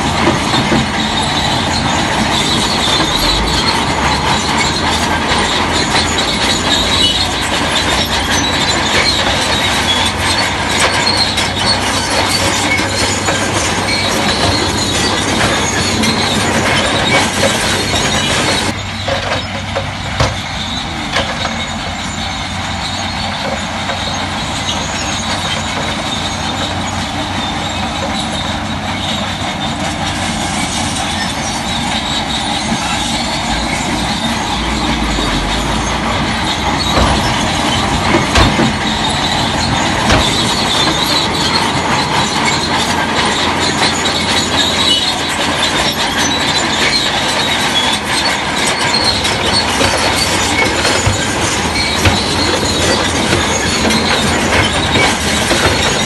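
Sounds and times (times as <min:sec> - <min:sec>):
bulldozer engine running: 0:00.0 - 0:56.0
steel tracks squealing and clanking: 0:00.0 - 0:56.0.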